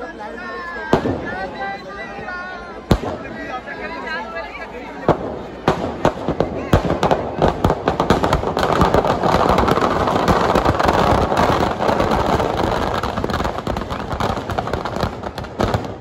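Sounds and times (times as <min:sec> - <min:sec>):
firecrackers crackling: 0:00.8 - 0:01.6, 0:02.8 - 0:03.9, 0:04.9 - 0:16.0.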